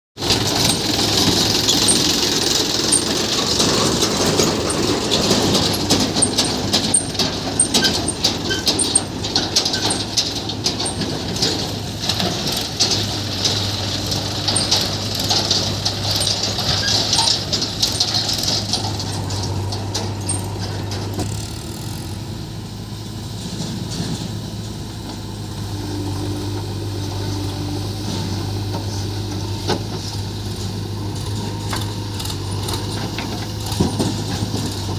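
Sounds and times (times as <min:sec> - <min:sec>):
clattering and scraping: 0:00.2 - 0:22.1, 0:28.0 - 0:34.9
diesel engines running: 0:00.2 - 0:34.9.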